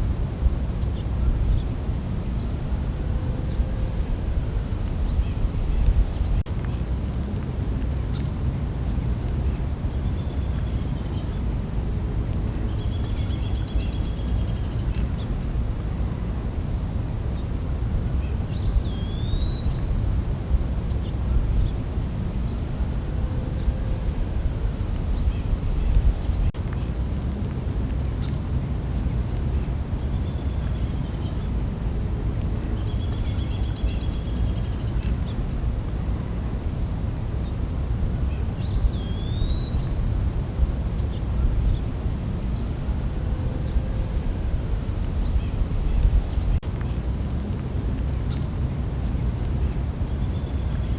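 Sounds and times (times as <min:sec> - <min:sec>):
cricket chirps: 0:00.0 - 0:50.9.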